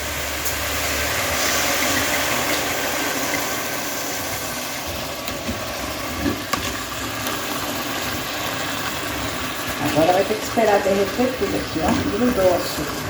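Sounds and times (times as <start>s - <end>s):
sugar and apples sizzling in pot: 0.0s - 13.0s.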